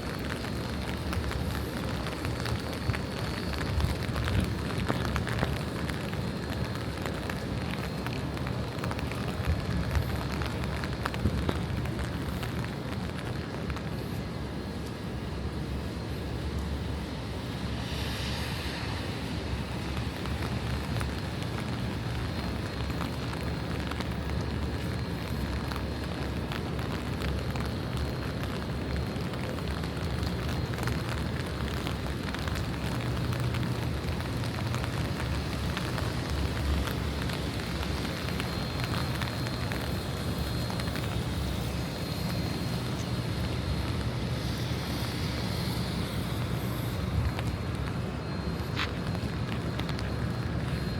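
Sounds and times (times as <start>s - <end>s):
low city rumble: 0.0s - 50.9s
rain on wet pavement: 0.0s - 50.9s.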